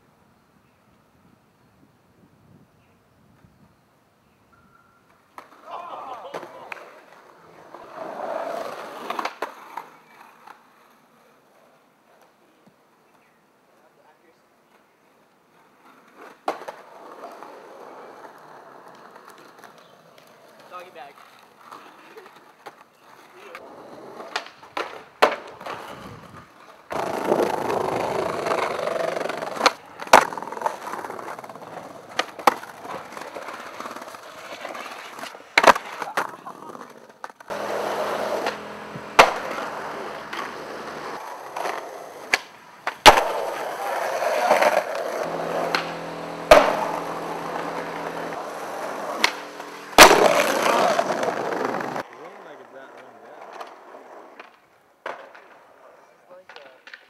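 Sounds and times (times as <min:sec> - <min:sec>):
skateboard wheels rolling on concrete: 0:00.0 - 0:57.0
skateboard popping and landing: 0:05.1 - 0:11.0, 0:15.8 - 0:57.0.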